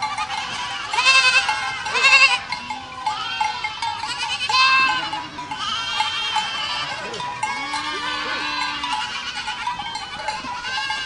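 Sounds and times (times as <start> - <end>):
goats bleating: 0.0 - 11.0.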